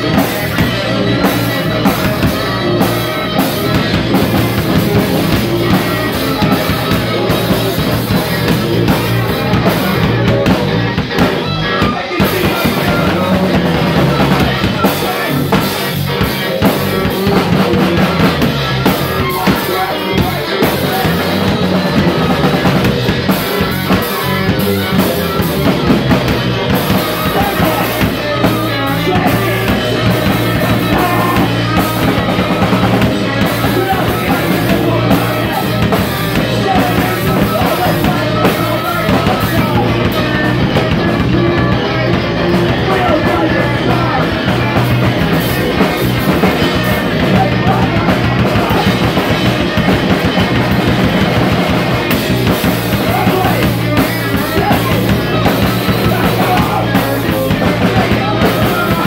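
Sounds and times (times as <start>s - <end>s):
drum kit beat: 0.0s - 59.0s
rock band playing: 0.0s - 59.0s.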